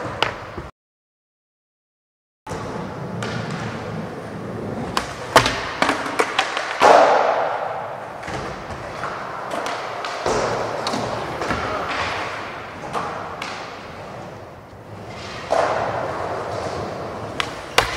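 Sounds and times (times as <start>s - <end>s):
skateboard wheels rolling on concrete: 2.5s - 17.9s.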